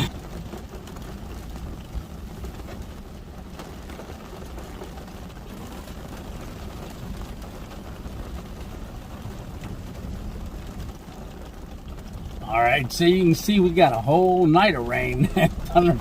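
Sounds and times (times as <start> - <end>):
heavy rain on car roof: 0.0 - 16.0
raindrop ticks: 0.0 - 16.0.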